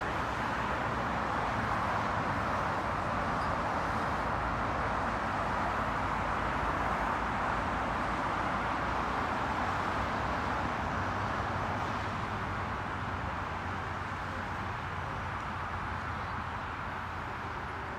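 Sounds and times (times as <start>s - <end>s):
cars passing on road: 0.0s - 17.9s.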